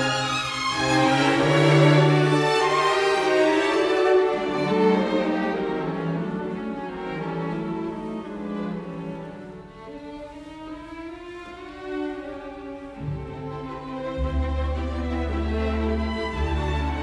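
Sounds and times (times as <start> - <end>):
violin and cello music: 0.0 - 17.0.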